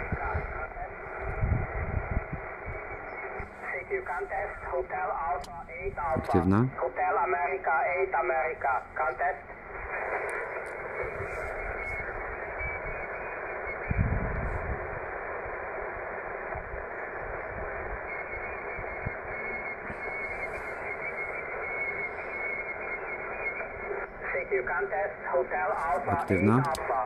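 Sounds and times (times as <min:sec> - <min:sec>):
radio hiss and static: 0:00.0 - 0:27.0.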